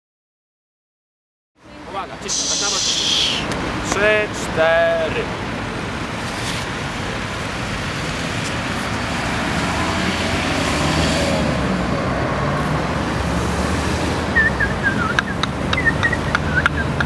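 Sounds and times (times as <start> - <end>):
cars driving by: 1.6 - 17.0.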